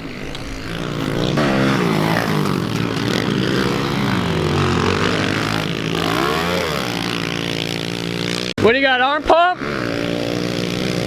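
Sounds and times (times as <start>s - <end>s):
pit bike engines revving: 0.0s - 11.0s.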